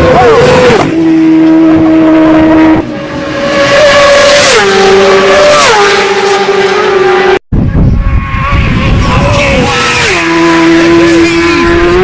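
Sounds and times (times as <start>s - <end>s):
racing motorcycle engine at high revs: 0.0s - 12.0s.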